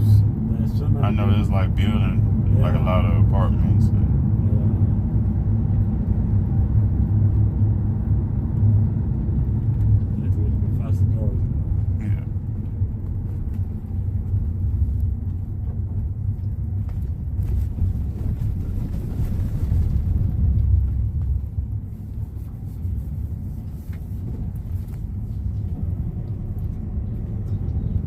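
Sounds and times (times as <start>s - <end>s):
vehicle rumble with road noise: 0.0s - 28.0s.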